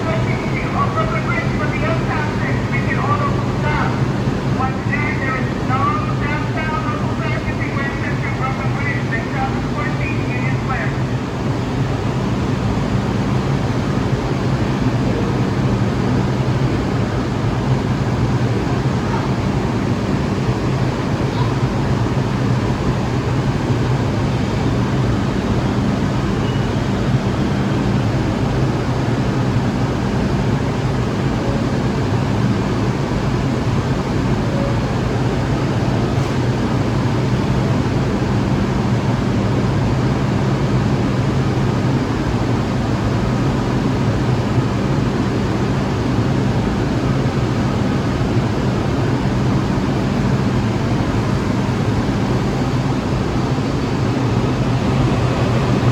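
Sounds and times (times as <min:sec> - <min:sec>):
subway train rumble: 0:00.0 - 0:55.9.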